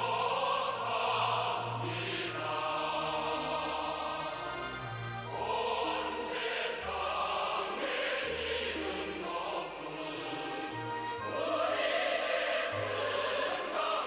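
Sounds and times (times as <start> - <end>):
choir singing sustained notes: 0.0 - 14.0
orchestral accompaniment: 0.0 - 14.0.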